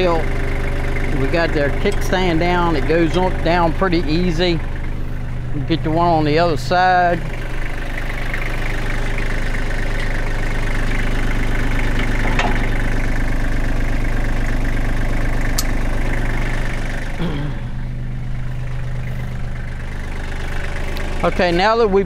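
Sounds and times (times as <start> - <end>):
diesel tractor engine idling: 0.0 - 22.0.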